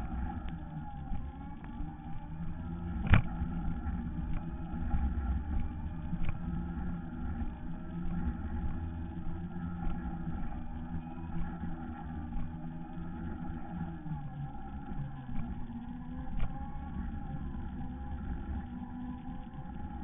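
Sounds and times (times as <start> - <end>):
electric drive hum: 0.0 - 20.0.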